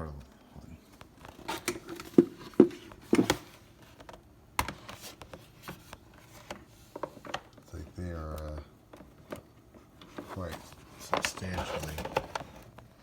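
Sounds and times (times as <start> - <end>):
plastic helmets clicking and knocking: 1.1 - 7.7, 8.4 - 12.8.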